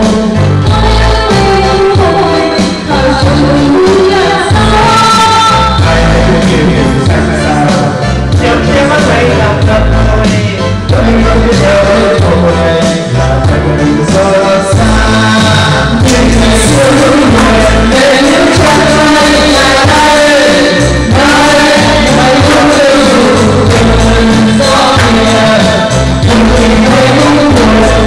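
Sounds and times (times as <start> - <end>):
bass line: 0.0 - 28.0
person singing: 0.0 - 28.0.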